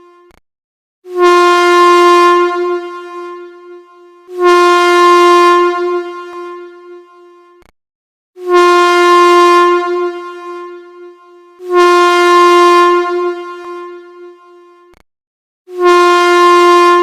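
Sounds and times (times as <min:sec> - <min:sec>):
train air horn blasts: 0:01.1 - 0:07.6, 0:08.4 - 0:14.9, 0:15.7 - 0:17.0.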